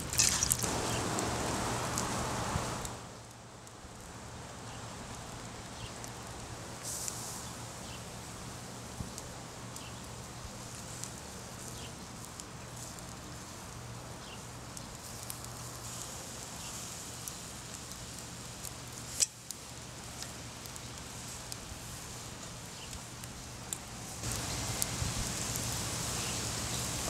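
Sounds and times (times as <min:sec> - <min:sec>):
meat sizzling on grill: 0:00.0 - 0:03.3, 0:04.3 - 0:27.0
fire crackles and pops: 0:00.0 - 0:27.0.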